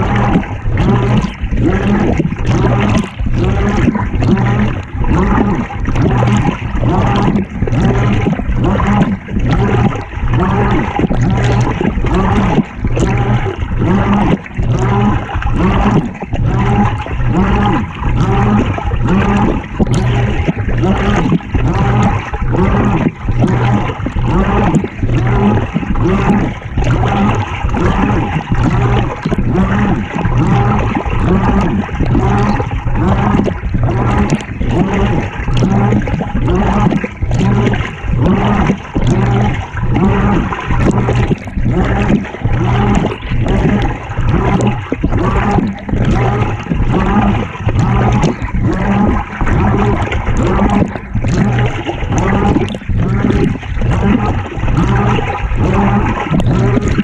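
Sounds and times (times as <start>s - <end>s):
low hum: 0.0s - 57.0s
water sloshing in washing machine: 0.0s - 57.0s.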